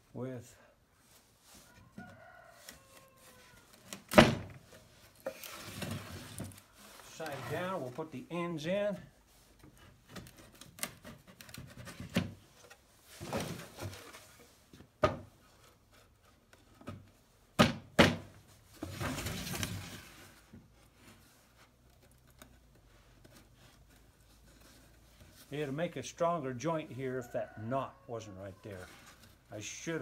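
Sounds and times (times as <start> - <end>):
wood scraping and rustling: 1.1 - 17.3, 18.3 - 25.9, 28.6 - 30.0.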